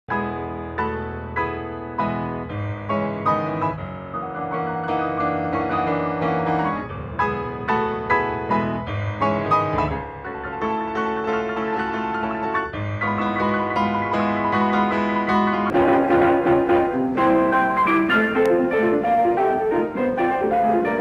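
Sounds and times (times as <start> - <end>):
lively piano music: 0.1 - 21.0.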